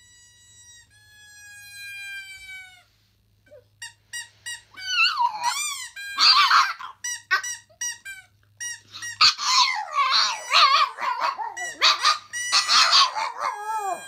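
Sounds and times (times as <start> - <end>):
rubber squeaky toy squeaking: 0.0 - 14.0.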